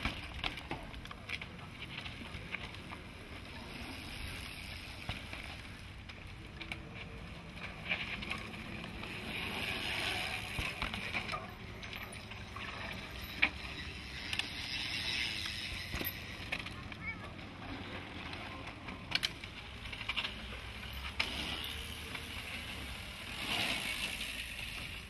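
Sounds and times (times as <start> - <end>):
bike rattles and clicks: 0.0 - 25.0
bike tyres on dirt: 0.0 - 25.0.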